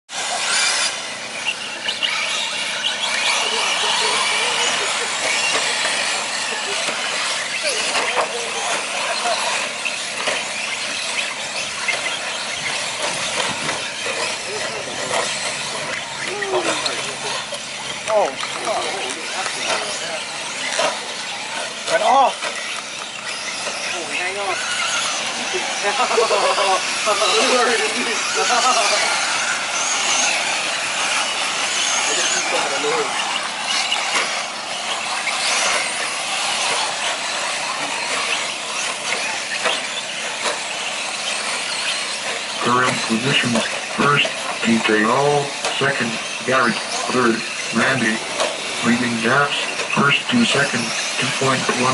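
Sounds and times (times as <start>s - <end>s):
rc truck motors and tyres hissing: 0.1s - 51.9s.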